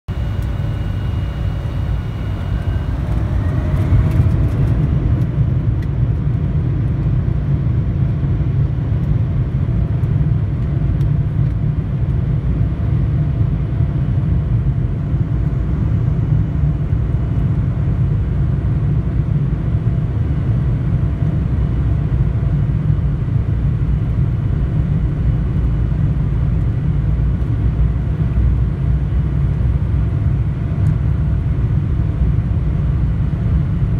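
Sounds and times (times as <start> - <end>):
jet engine low rumble: 0.1 - 33.9
jet engine whine: 0.1 - 33.9.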